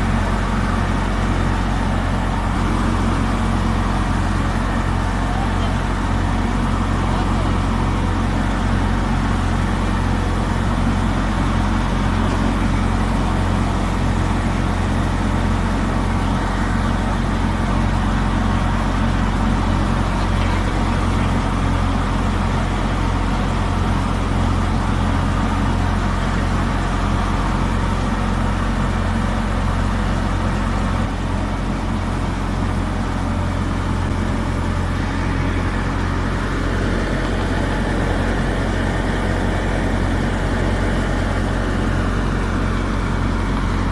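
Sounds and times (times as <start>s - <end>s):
threshing machine noise: 0.0s - 43.9s
tractor engine running: 0.0s - 43.9s.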